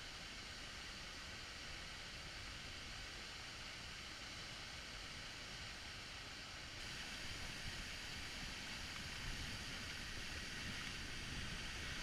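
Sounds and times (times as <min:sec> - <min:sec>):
water rushing from waterfall: 0:00.0 - 0:12.0.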